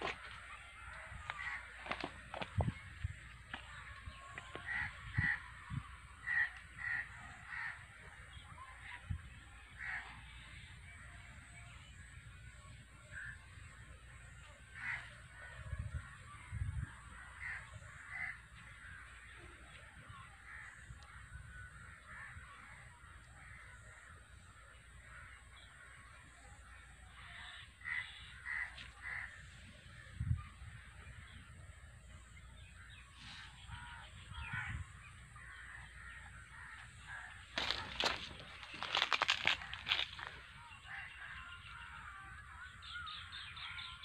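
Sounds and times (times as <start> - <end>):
faint bird calls: 0.0 - 44.0.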